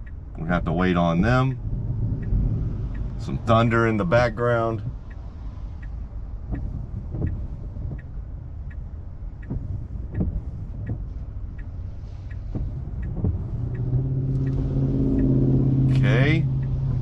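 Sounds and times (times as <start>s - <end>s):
cars passing on wet road: 0.0s - 17.0s
turn signal ticking: 0.0s - 17.0s.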